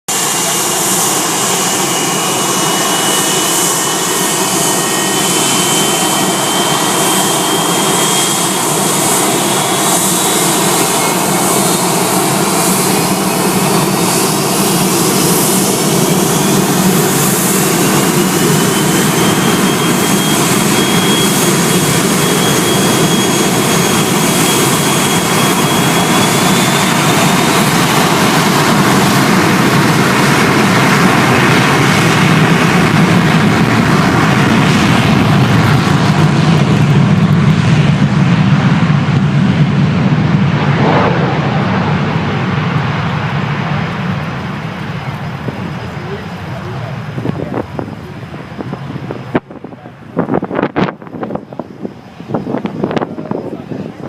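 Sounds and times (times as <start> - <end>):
jet engine whine: 0.1 - 54.0
jet engines roaring: 0.1 - 54.0.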